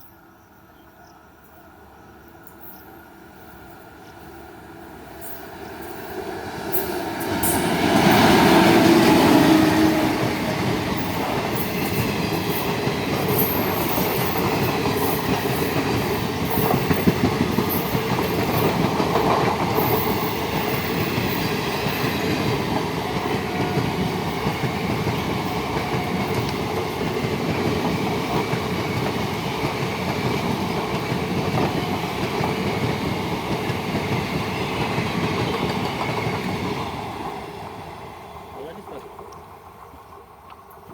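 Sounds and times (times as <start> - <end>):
electric locomotive passing: 0.0 - 40.9
train wheels clattering on rails: 2.4 - 39.5.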